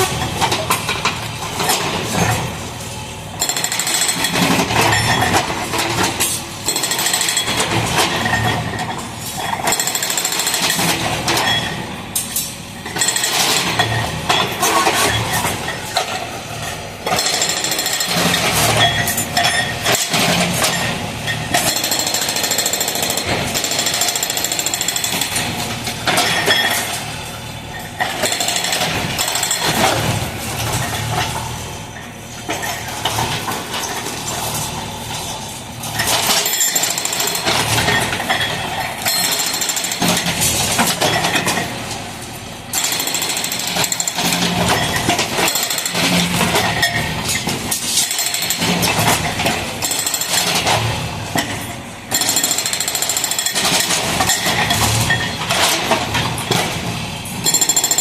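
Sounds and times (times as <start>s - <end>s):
hydraulic breaker hammering concrete: 3.4s - 12.1s, 12.8s - 27.2s, 28.0s - 31.5s, 35.9s - 42.0s, 42.6s - 58.0s.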